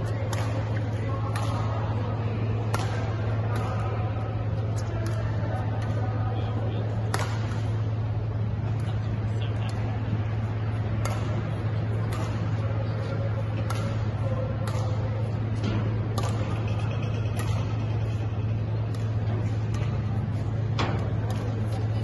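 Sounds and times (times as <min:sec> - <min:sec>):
rackets hitting shuttlecock: 0:00.0 - 0:22.0
steady low hum: 0:00.0 - 0:22.0.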